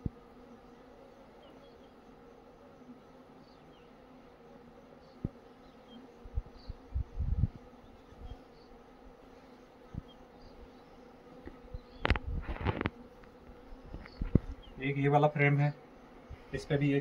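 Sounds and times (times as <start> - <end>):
bees humming: 0.0 - 17.0.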